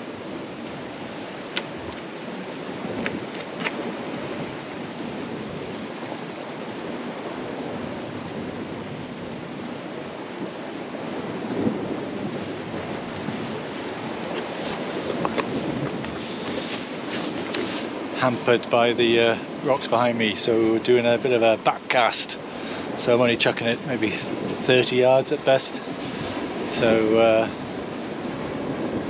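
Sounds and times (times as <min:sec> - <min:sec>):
sea surf on rocky shore: 0:00.0 - 0:29.0
wind buffeting microphone: 0:00.0 - 0:29.0.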